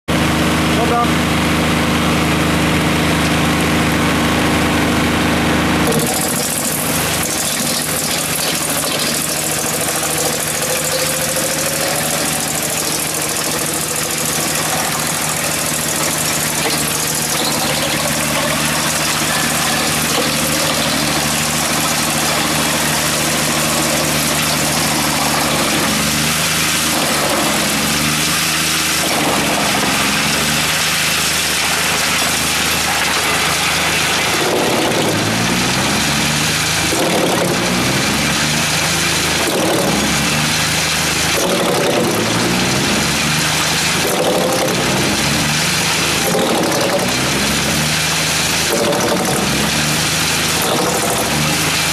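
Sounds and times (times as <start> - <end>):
diesel engine drone: 0.0 - 51.9
wood chipper rushing noise: 0.1 - 51.9.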